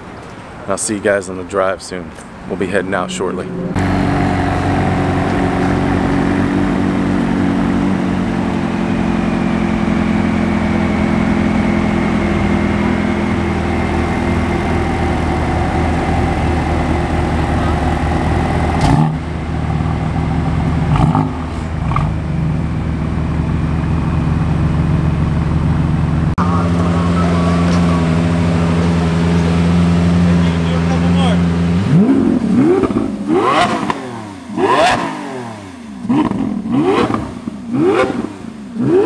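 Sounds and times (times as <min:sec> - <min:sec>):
car engine idling: 0:01.4 - 0:39.0.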